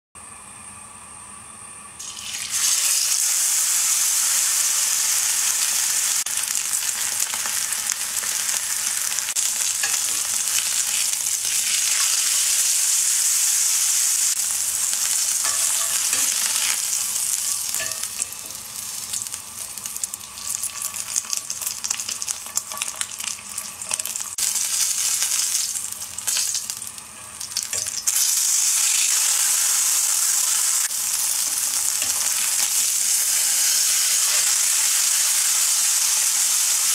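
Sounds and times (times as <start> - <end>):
steak sizzling in a skillet: 2.0 - 36.9.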